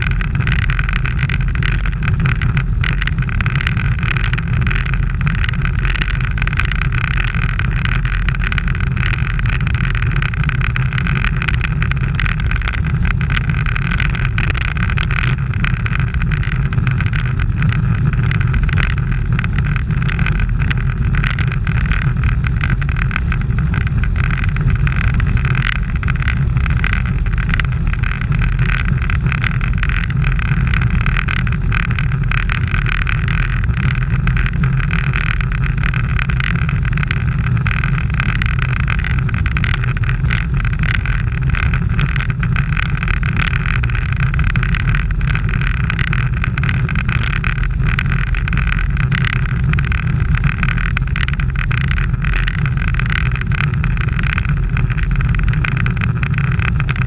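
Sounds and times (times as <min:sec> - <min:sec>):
tyre noise on asphalt: 0:00.0 - 0:57.0.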